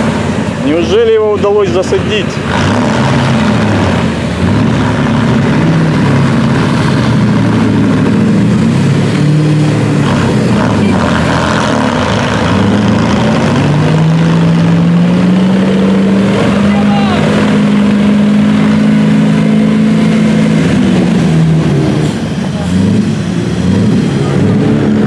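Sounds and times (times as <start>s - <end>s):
off-road engines revving: 0.0s - 25.0s.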